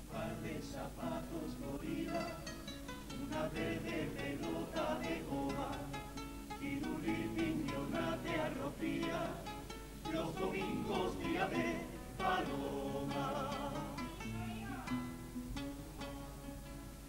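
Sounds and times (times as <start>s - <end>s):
guitars playing plucked notes: 0.0s - 17.0s.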